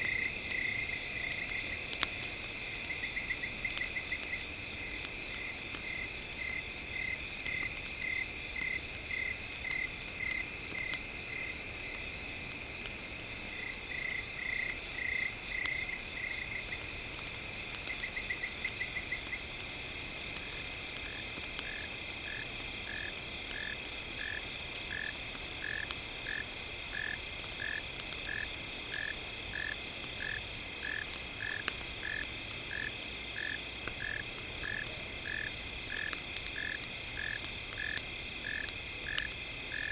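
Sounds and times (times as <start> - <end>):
faint crackles: 0.0 - 39.9
insects trilling: 0.0 - 39.9.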